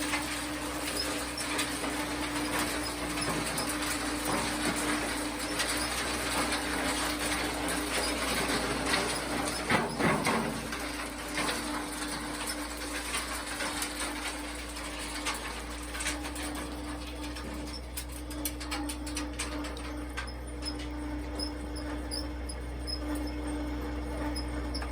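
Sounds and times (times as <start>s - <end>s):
rattling gritty noise: 0.0s - 24.9s.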